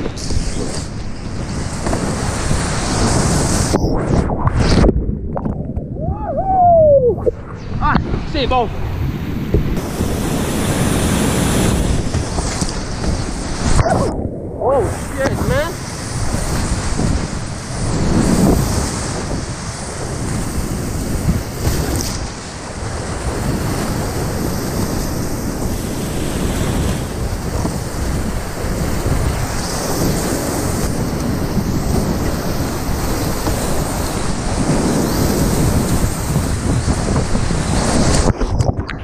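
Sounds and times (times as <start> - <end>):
water buffeting microphone: 0.0 - 39.0.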